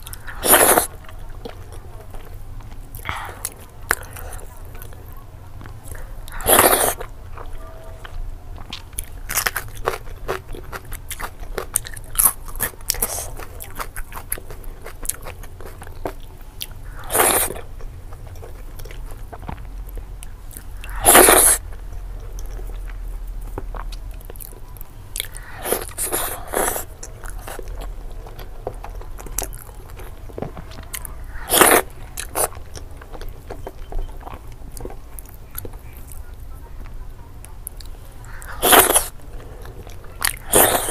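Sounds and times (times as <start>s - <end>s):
crunchy bites: 0.0s - 37.0s, 37.6s - 40.9s
chewing and wet mouth clicks: 0.0s - 40.9s.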